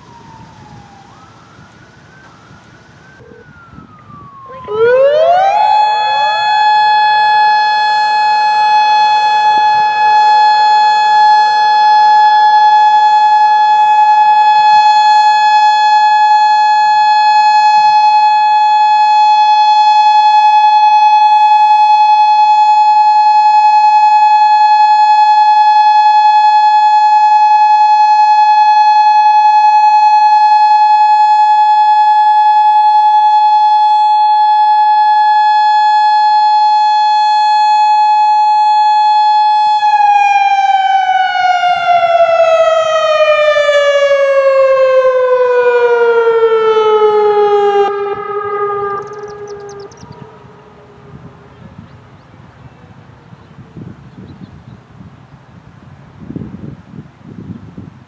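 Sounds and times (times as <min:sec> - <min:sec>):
warning siren steady tone: 0:00.0 - 0:55.1.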